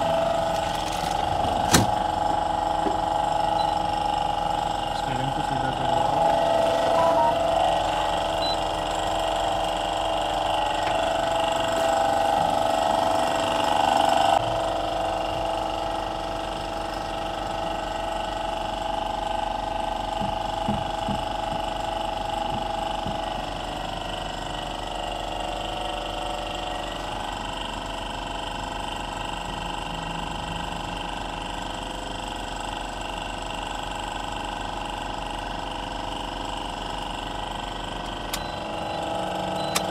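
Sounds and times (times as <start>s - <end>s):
mechanical hum with whine: 0.0s - 39.9s.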